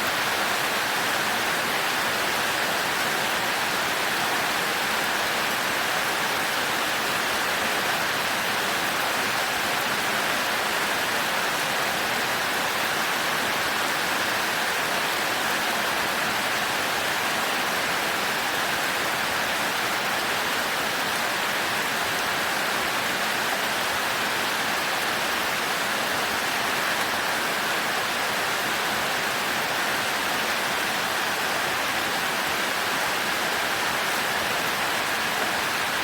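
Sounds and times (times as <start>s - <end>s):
heavy rain: 0.0s - 36.0s.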